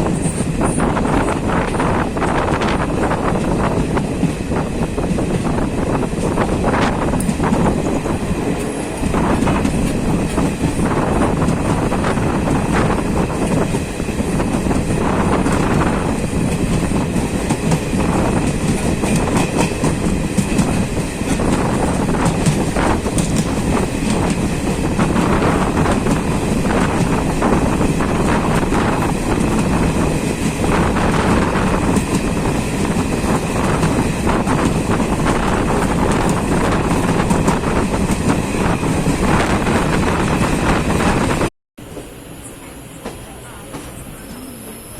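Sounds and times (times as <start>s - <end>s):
train wheels clattering on rails: 0.0s - 42.2s.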